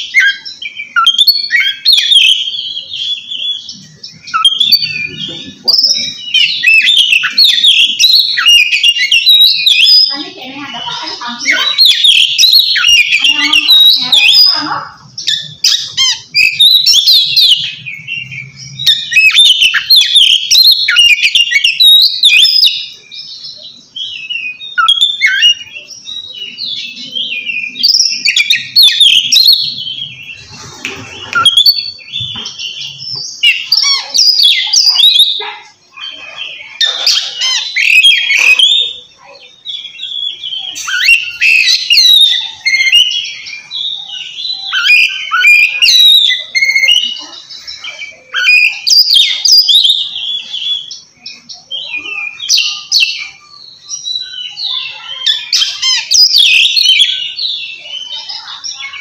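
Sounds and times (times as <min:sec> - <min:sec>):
bird whistles and chirps: 0:00.0 - 0:10.2, 0:11.5 - 0:59.0.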